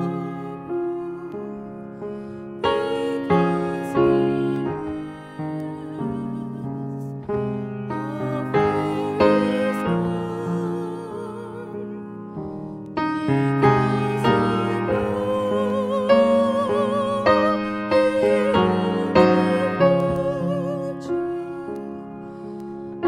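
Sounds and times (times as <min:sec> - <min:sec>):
woman singing a hymn: 0:00.0 - 0:12.1, 0:13.0 - 0:22.4
piano chords: 0:00.0 - 0:23.0.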